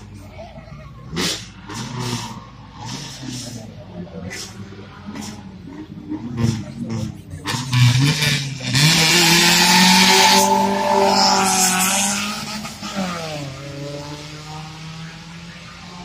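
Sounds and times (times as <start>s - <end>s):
car engine revving: 1.0s - 16.0s
tires squealing: 1.0s - 16.0s.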